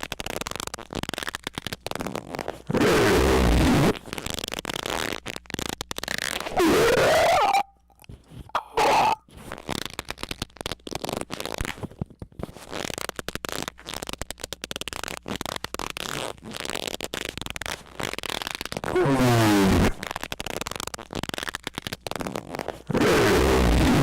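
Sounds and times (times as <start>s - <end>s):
distorted crackling and sputtering: 0.0s - 11.8s, 12.8s - 24.0s.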